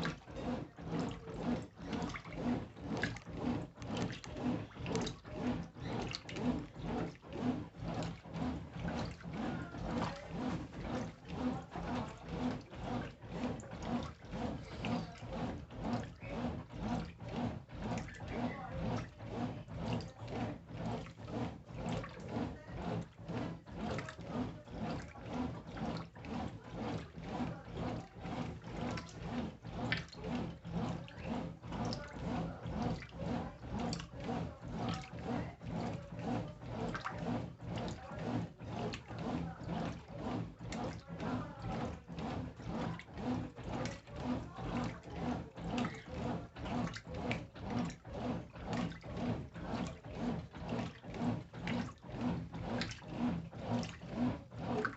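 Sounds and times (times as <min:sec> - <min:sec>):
clothes and water sloshing: 0:00.0 - 0:54.9
washing machine motor hum: 0:00.0 - 0:54.9.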